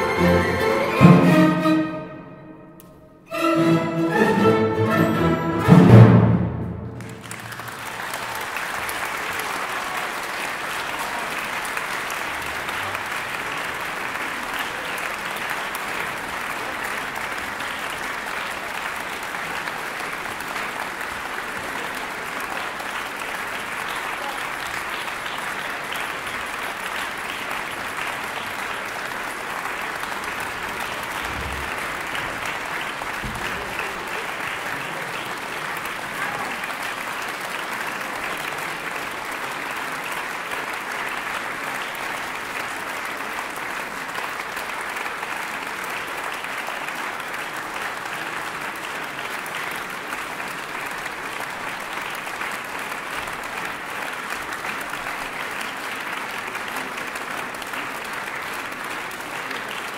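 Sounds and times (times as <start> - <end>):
audience applauding: 3.3 - 59.9.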